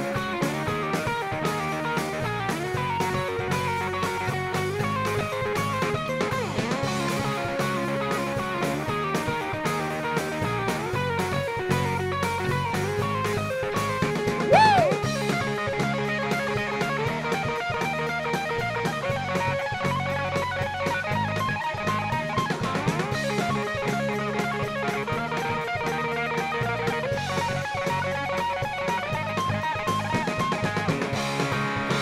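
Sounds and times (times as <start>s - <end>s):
drum kit beat: 0.0s - 32.0s
electric guitars: 0.0s - 32.0s.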